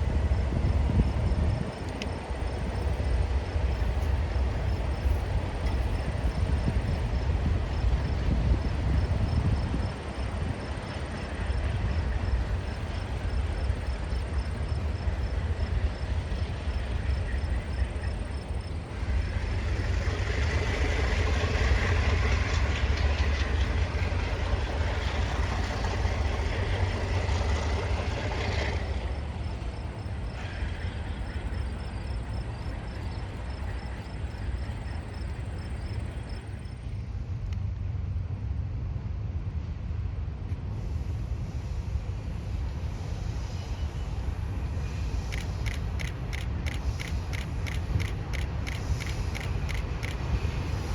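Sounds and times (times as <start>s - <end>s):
diesel locomotive rumbling: 0.0s - 50.9s.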